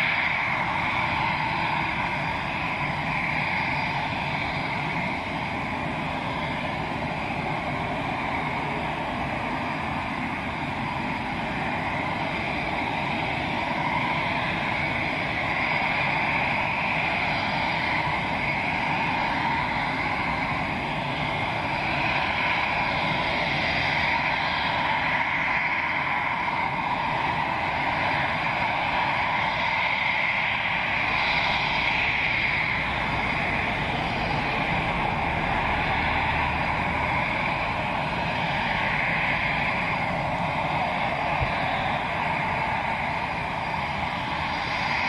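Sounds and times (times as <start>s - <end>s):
jet engines idling: 0.0s - 45.0s.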